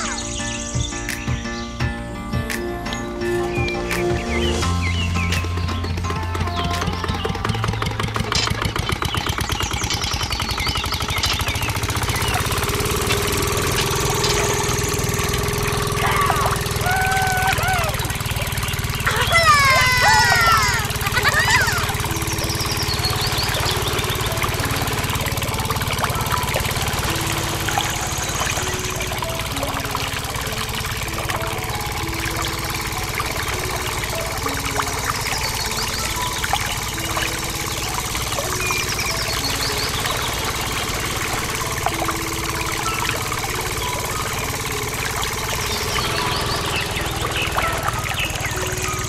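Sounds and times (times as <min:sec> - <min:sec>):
small diesel engine running: 0:02.4 - 0:49.0.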